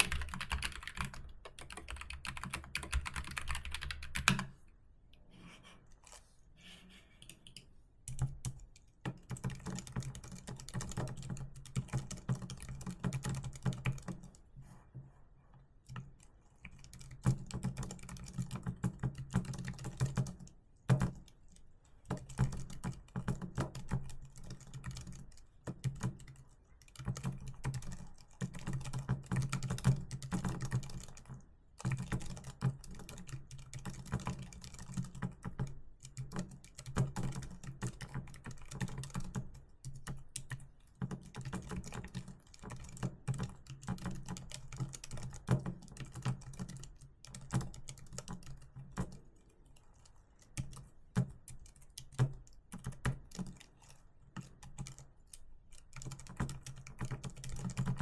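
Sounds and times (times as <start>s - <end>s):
computer keyboard typing: 0.0s - 4.6s, 7.1s - 14.5s, 15.9s - 58.0s.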